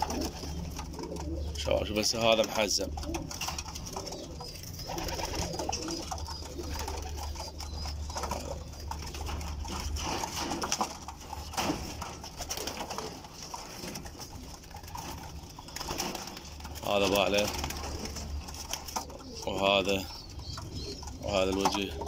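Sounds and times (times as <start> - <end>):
pigeons cooing: 0.0 - 22.0
rustles and knocks of handling: 0.0 - 22.0.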